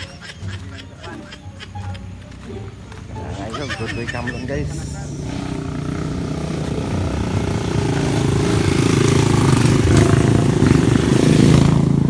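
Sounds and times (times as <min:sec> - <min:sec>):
motorcycle engines approaching: 0:00.0 - 0:12.0.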